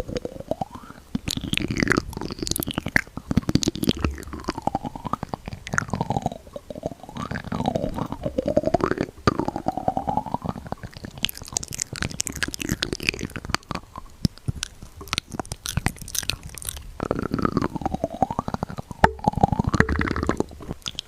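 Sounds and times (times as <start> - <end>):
wet mouth clicking: 0.0 - 21.0.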